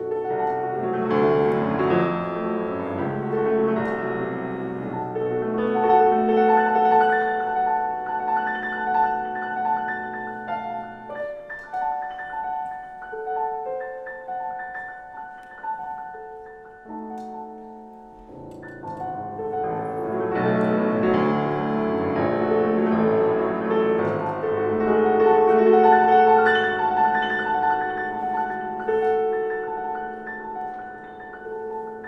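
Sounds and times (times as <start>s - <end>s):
grand piano classical piece: 0.0s - 32.0s.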